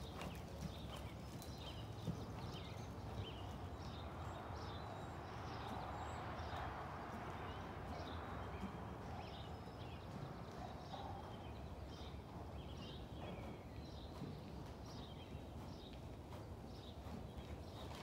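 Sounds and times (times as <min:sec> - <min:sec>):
muffled hoofbeats on sand: 0:00.0 - 0:18.0
small birds chirping: 0:00.0 - 0:18.0.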